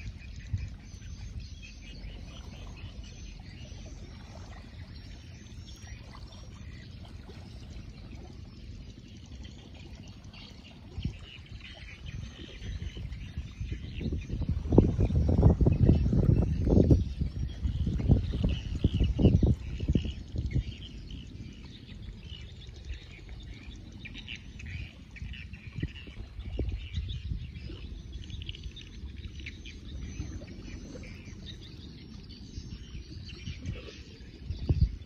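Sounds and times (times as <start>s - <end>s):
wind buffeting microphone: 0.0s - 8.9s, 9.8s - 35.0s.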